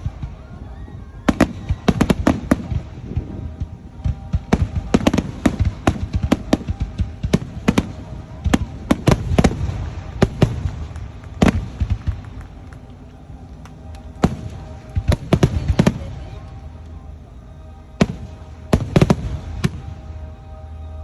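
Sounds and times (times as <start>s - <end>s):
fireworks bangs and pops: 1.3s - 17.0s, 18.0s - 20.1s.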